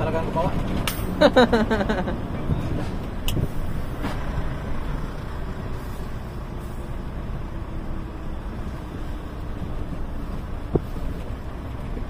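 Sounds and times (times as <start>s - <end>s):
truck engine rumbling from cab: 0.0s - 12.0s.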